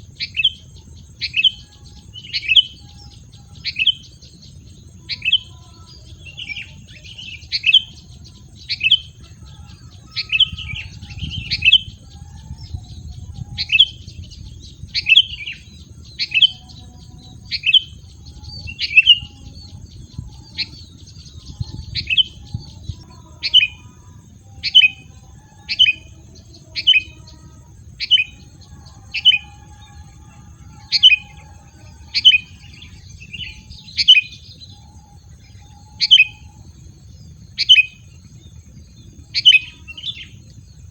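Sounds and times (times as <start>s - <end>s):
songbird sharp calls: 0.0s - 40.9s.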